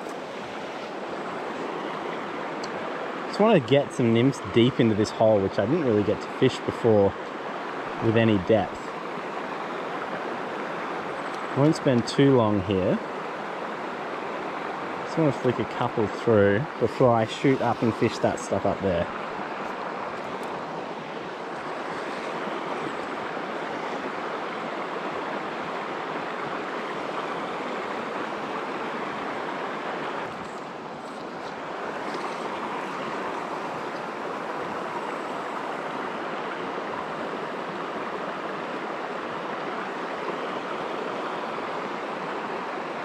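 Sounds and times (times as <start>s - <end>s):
river water rushing over rocks: 0.0s - 43.0s.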